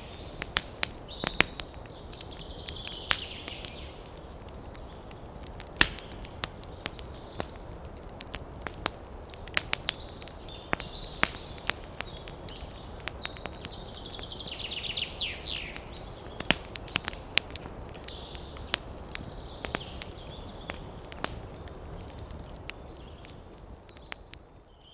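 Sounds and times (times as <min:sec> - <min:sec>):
small birds chirping: 0:00.0 - 0:24.9
wood fire crackling: 0:00.0 - 0:24.9.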